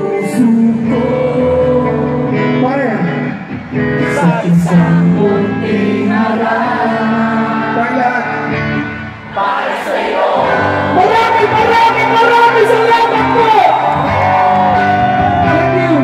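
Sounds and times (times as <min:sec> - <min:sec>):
crowd singing along: 0:00.0 - 0:02.6, 0:04.0 - 0:15.4
live rock band playing: 0:00.0 - 0:06.2, 0:07.1 - 0:09.3, 0:10.4 - 0:16.0.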